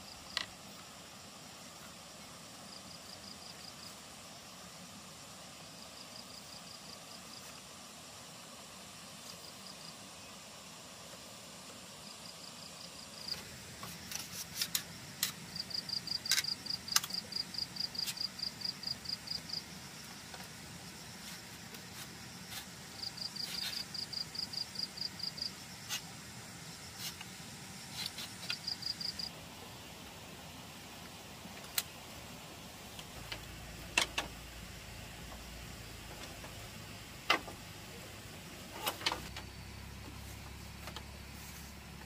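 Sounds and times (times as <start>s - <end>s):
insect chirping: 0.0s - 42.0s.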